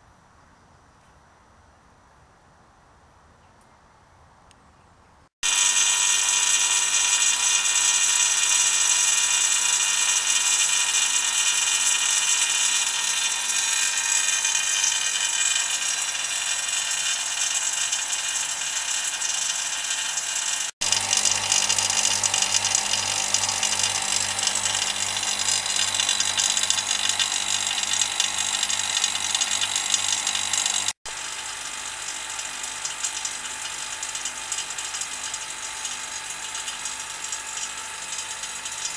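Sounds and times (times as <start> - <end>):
vacuum pump motor whine: 5.4 - 38.9.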